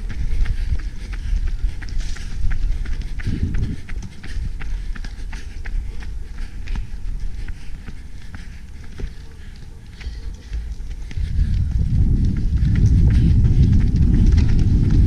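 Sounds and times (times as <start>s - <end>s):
low rumble: 0.0s - 7.4s, 10.1s - 15.0s
running footsteps on pavement: 0.0s - 15.0s.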